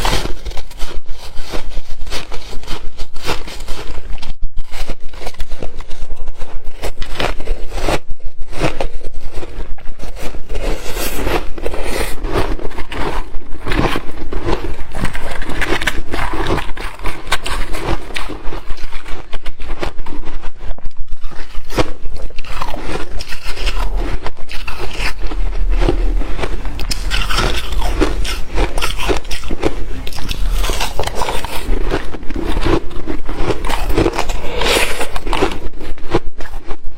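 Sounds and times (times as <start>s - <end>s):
chewing crunchy ice: 0.0s - 36.9s.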